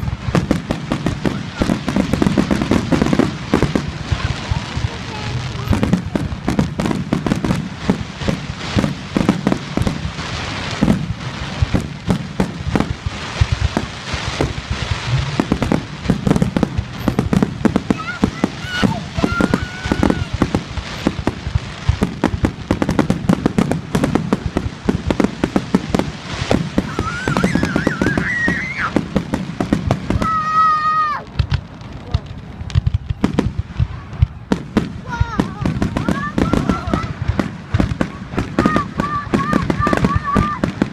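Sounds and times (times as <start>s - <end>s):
fireworks bursting: 0.0s - 40.9s
rising firework whistles: 0.0s - 40.9s.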